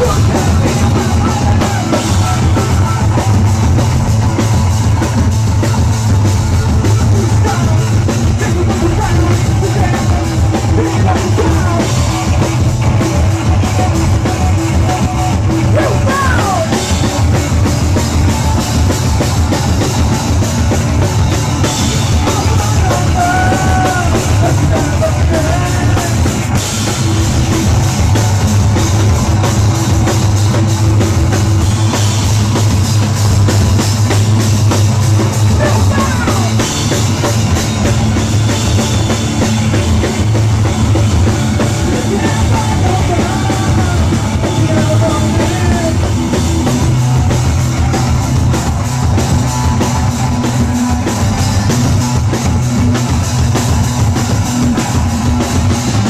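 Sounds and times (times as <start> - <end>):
drum kit: 0.0 - 56.0
rock band playing live: 0.0 - 56.0.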